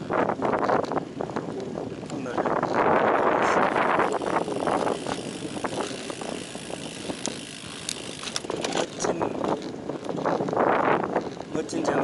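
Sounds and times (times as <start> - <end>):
bike clicks and rattles: 0.0 - 12.0
wind and tyre rush: 0.0 - 12.0.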